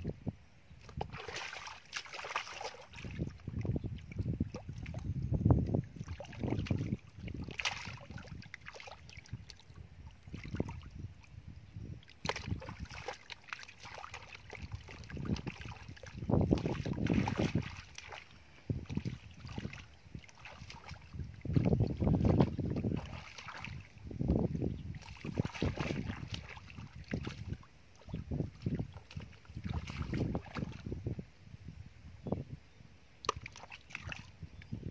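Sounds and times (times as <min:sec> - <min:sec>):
hands sloshing in muddy water: 0:00.8 - 0:05.1, 0:05.7 - 0:11.4, 0:12.0 - 0:31.1, 0:33.2 - 0:34.9.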